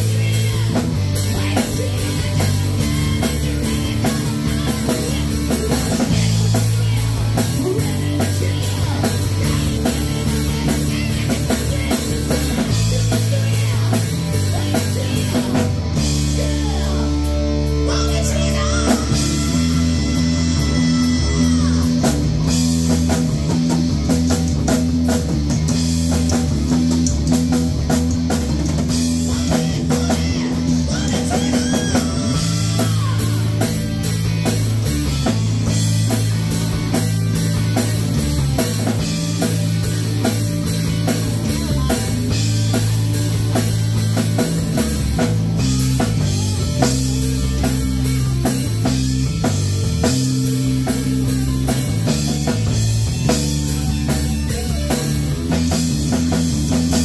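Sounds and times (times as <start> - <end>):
distorted electric guitar: 0.0 - 57.0
drum kit beat: 0.0 - 57.0
electric bass: 0.0 - 57.0.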